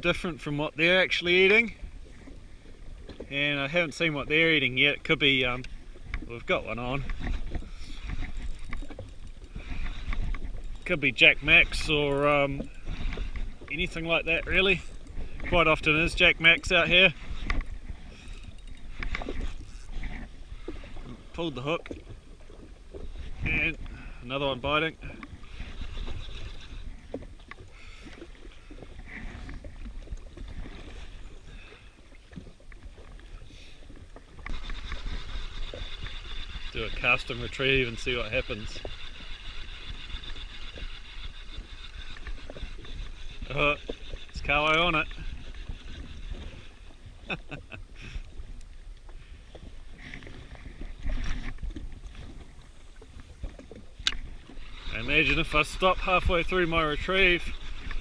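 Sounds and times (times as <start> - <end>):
waves slapping against hull: 0.0 - 58.0
wind rumbling on microphone: 0.0 - 58.0.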